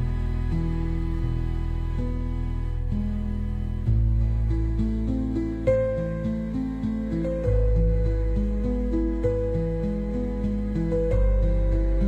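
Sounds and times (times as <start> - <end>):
soft instrumental background music: 0.0 - 12.0.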